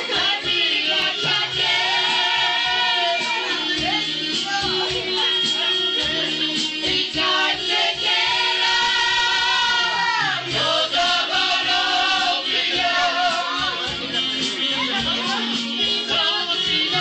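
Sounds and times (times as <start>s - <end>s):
music with singing: 0.0s - 17.0s.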